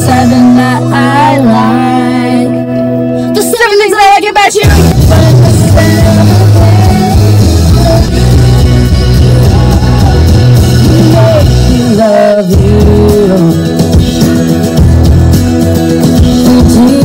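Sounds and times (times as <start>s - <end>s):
heavy bass line: 0.0s - 3.4s, 4.6s - 17.0s
person singing: 0.0s - 3.5s, 4.3s - 14.0s, 16.2s - 17.0s.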